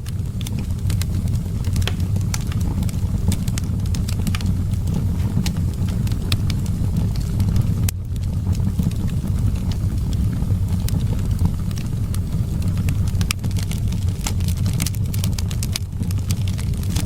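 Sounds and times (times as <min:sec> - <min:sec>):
low rumble of wind: 0:00.0 - 0:17.0
wood fire crackling: 0:00.0 - 0:17.0.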